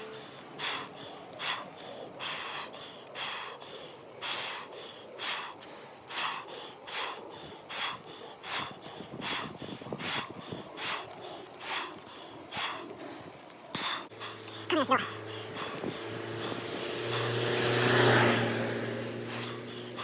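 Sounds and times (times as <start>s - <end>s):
person breathing hard: 0.0s - 20.0s.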